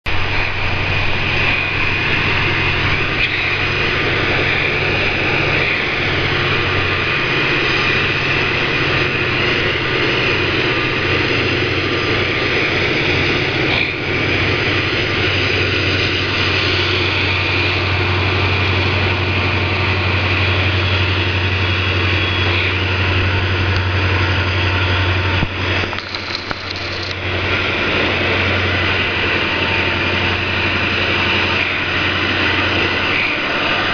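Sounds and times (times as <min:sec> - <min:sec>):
diesel locomotive engines droning: 0:00.0 - 0:33.9
train running noise: 0:00.0 - 0:33.9.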